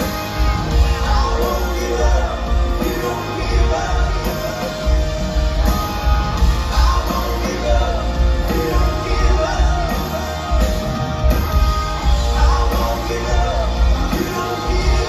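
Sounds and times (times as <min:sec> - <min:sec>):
drums: 0:00.0 - 0:15.0
electric guitars: 0:00.0 - 0:15.0
lead singing: 0:00.0 - 0:15.0
pulsing bass line: 0:00.0 - 0:15.0
rock band playing live: 0:00.0 - 0:15.0.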